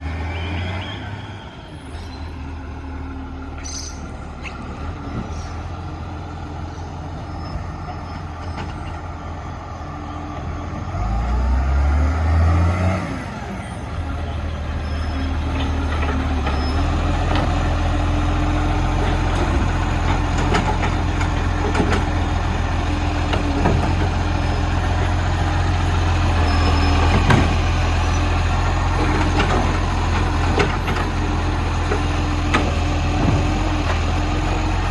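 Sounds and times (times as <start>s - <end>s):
diesel truck engine revving: 0.0s - 34.9s.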